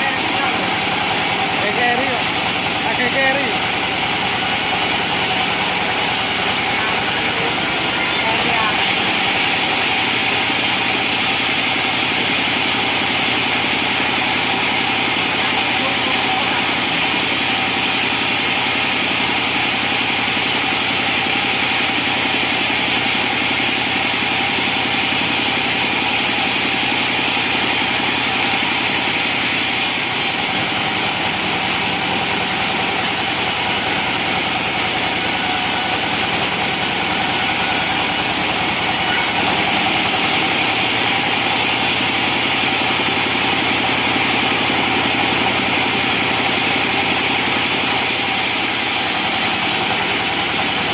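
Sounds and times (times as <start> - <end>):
band sawmill droning: 0.0 - 50.9.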